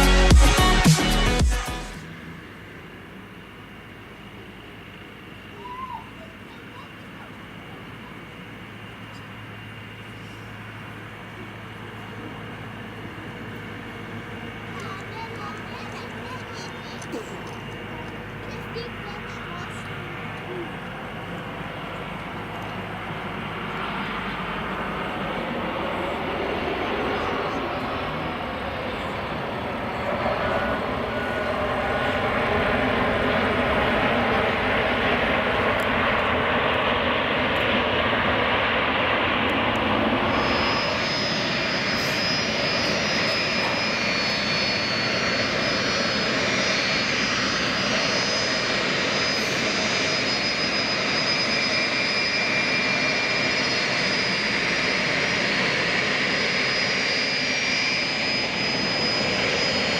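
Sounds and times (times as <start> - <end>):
high-pitched whining tones: 0.0 - 59.9
jet engines running: 0.0 - 59.9.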